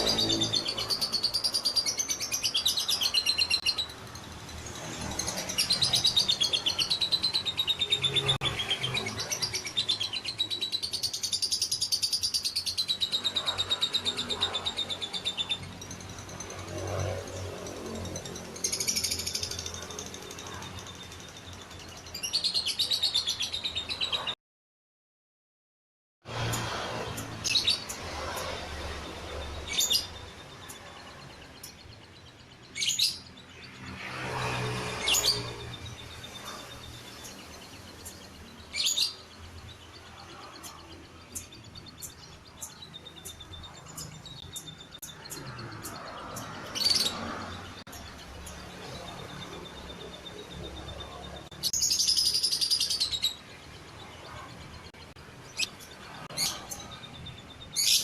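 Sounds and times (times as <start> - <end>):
bird chirping: 0.0 - 24.4, 26.4 - 58.0.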